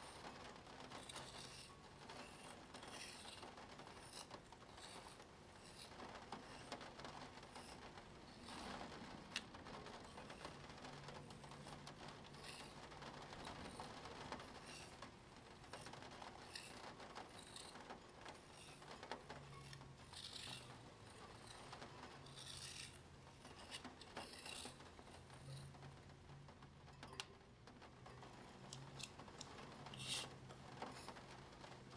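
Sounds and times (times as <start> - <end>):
pen drawing on paper: 0.0 - 25.8, 29.0 - 31.2
plastic gear wheel rubbing and ticking: 0.0 - 27.2, 28.0 - 31.9.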